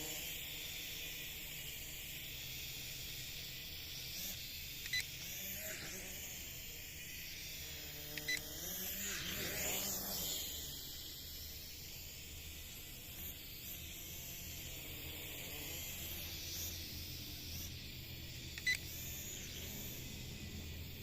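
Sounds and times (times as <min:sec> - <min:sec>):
toy drone humming: 0:00.0 - 0:21.0.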